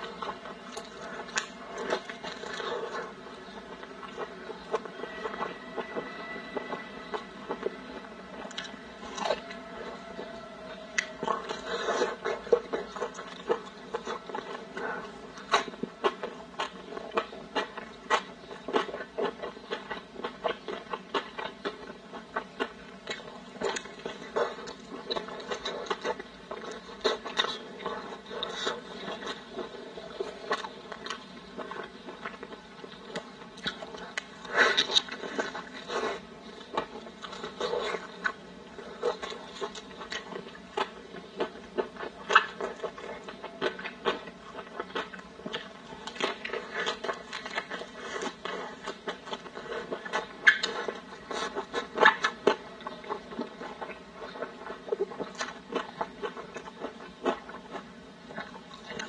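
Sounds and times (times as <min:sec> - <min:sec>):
chewing with wet mouth clicks: 0:00.0 - 0:05.4, 0:08.4 - 0:09.6, 0:11.0 - 0:59.0.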